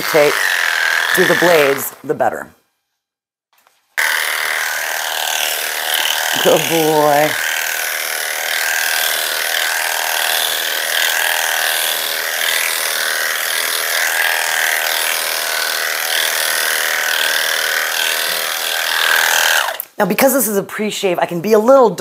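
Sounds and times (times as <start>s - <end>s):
electric clippers shaving fur: 0.0s - 2.1s, 4.0s - 19.9s.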